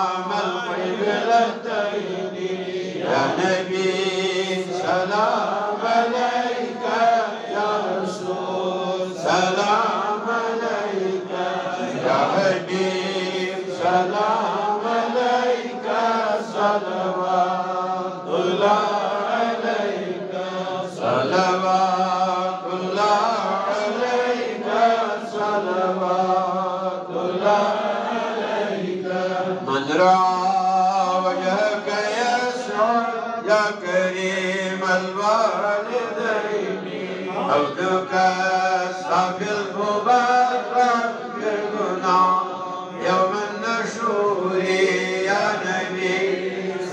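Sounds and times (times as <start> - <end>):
man chanting through microphone: 0.0 - 46.9.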